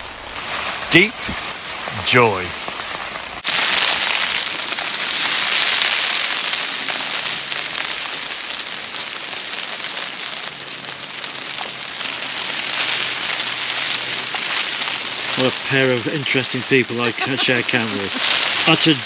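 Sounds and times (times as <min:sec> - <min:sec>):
rain on tent fabric: 0:00.0 - 0:19.0.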